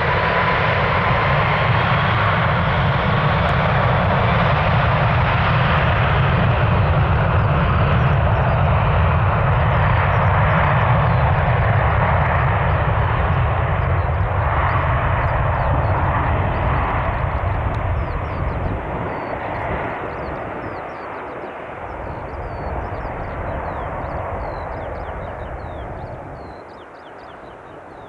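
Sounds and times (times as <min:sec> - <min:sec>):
jet engines at takeoff thrust: 0:00.0 - 0:28.0.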